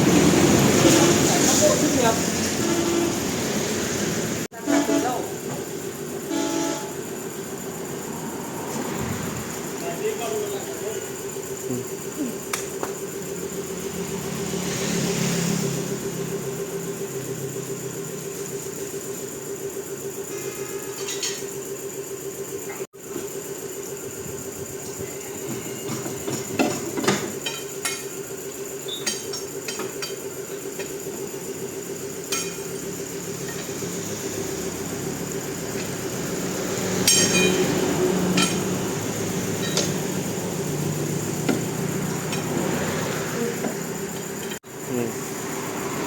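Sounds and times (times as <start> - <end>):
steady mechanical hum: 0.0 - 14.4, 16.0 - 46.0.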